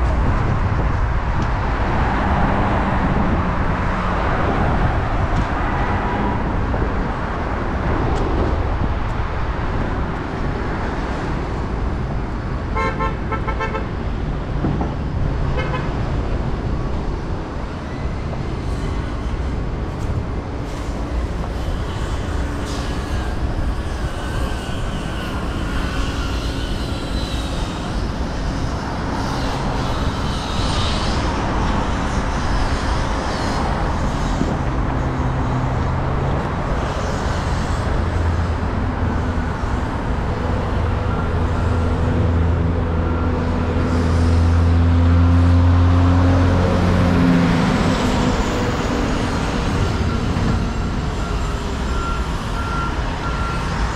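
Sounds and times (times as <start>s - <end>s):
road traffic noise: 0.0s - 53.9s.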